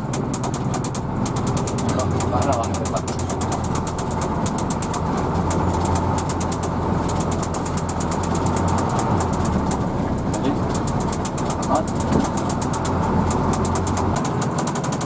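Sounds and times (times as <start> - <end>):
bus engine humming: 0.0 - 15.0
fast high-pitched ticking: 0.0 - 15.0.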